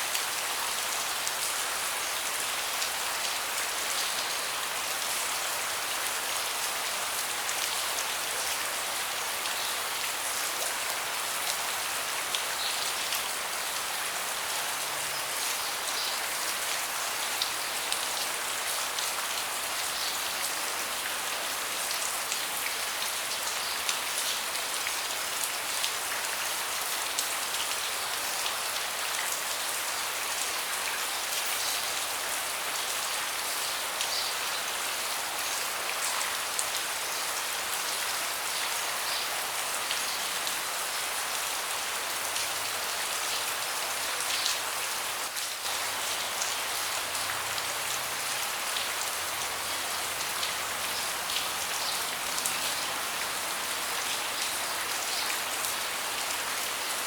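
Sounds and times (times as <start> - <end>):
rain falling on deck: 0.0 - 57.0.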